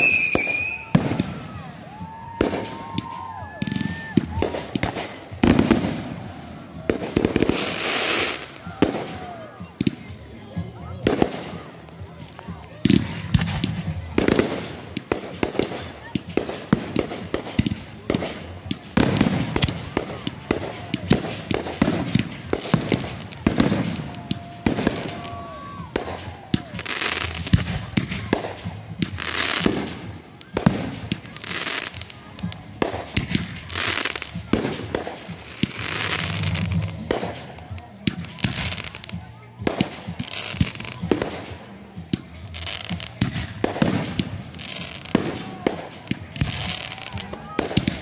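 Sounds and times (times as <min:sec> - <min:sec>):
fireworks bangs: 0:00.0 - 0:10.2, 0:10.9 - 0:48.0
fireworks crackling hiss: 0:00.0 - 0:48.0.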